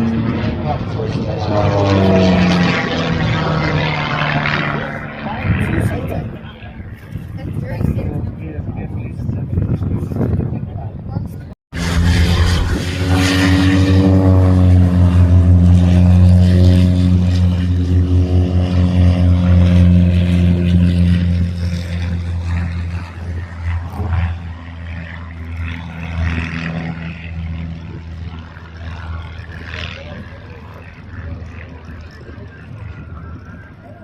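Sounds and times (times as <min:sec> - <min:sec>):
propeller aircraft droning: 0:00.0 - 0:34.0.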